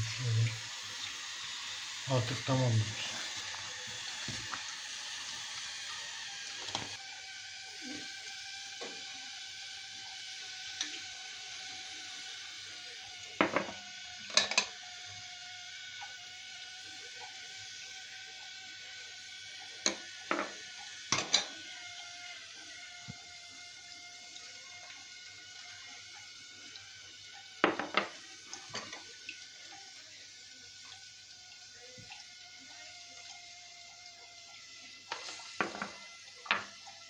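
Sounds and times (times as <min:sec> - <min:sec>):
gas stove hissing: 0:00.0 - 0:37.0.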